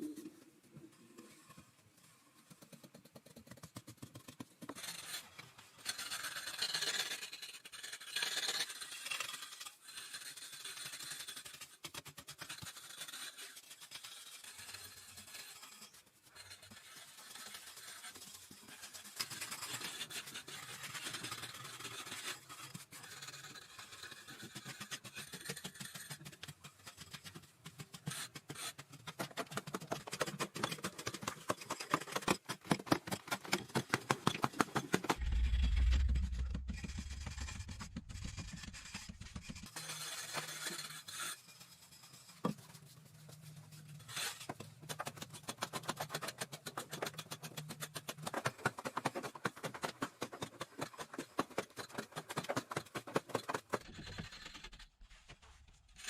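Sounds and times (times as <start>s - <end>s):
rough scraping and scratching: 4.7s - 56.0s.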